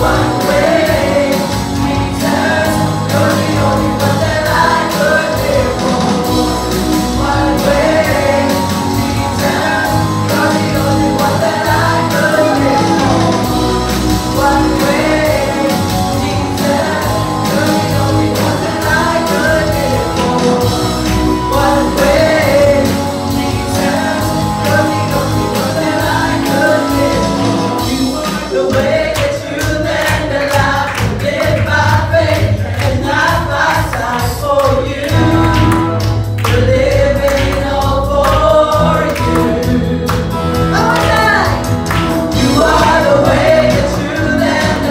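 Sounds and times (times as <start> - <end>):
backing singers: 0.0 - 44.9
bass line: 0.0 - 44.9
drums: 0.0 - 44.9.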